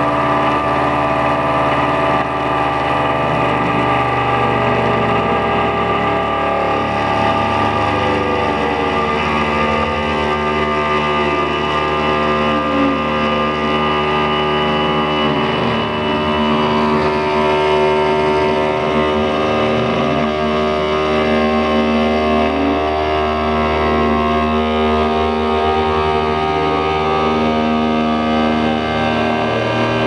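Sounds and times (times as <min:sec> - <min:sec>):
cnc machine motor whine: 0:00.0 - 0:30.0.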